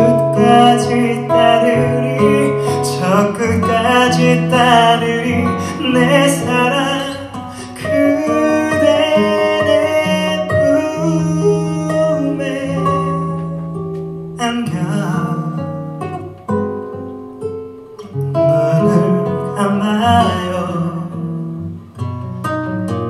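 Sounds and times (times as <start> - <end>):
man singing a slow ballad: 0.0 - 13.7, 14.4 - 15.8, 18.3 - 21.6
plucked acoustic guitar: 0.0 - 23.0.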